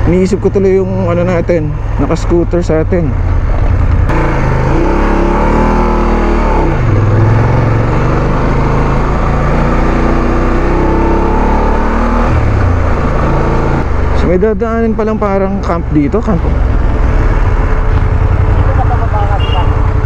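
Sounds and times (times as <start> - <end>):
motorcycle engine running: 2.3 - 20.0.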